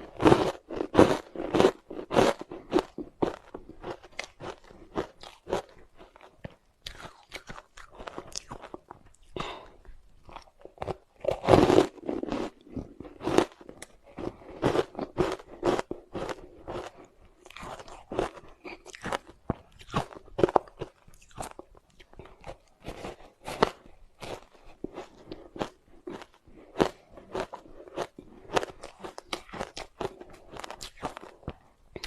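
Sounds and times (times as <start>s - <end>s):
ice being crunched and chewed: 0.0s - 32.0s.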